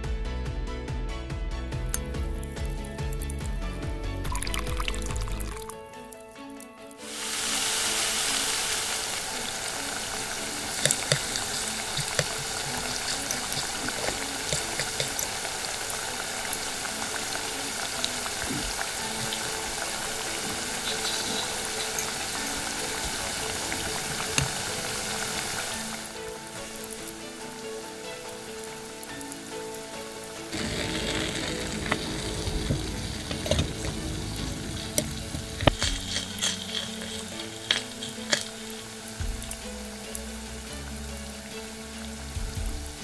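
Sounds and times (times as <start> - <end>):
food sizzling in oil: 1.9 - 6.3, 6.9 - 43.0.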